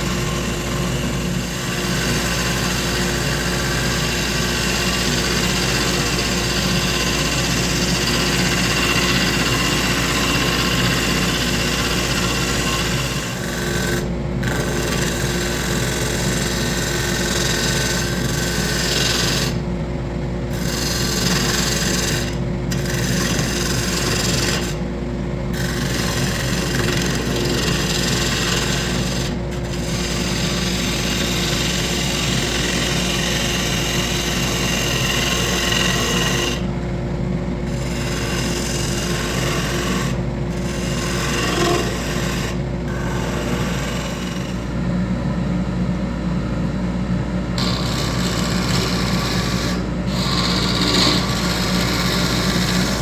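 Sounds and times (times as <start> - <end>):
tool scraping spinning wood: 0.0 - 19.8, 20.4 - 36.8, 37.5 - 44.8, 47.6 - 53.0
lathe motor hum: 0.0 - 53.0.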